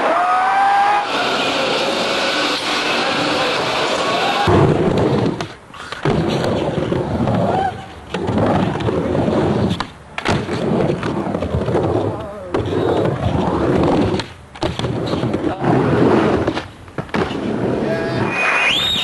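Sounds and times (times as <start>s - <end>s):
skateboard wheels rolling: 0.0s - 19.0s.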